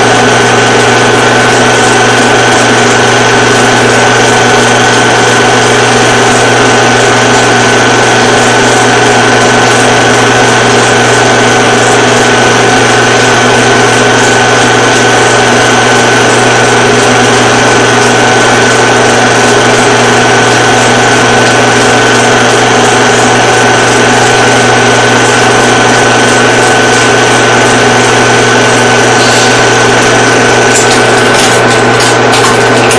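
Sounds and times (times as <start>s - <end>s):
film projector whirring: 0.0s - 32.9s.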